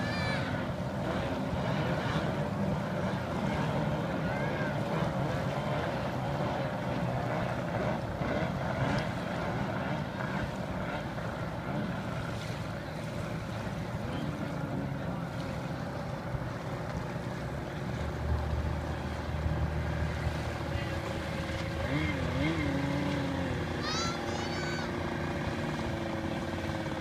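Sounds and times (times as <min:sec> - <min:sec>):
high engine whine: 0:00.0 - 0:27.0
racing boat engines: 0:00.0 - 0:27.0.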